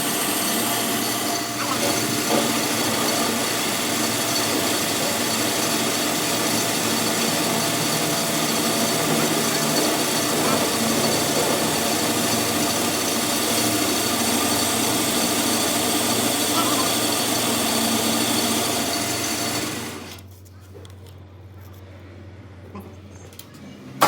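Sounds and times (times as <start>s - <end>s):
machine running: 0.0s - 20.3s.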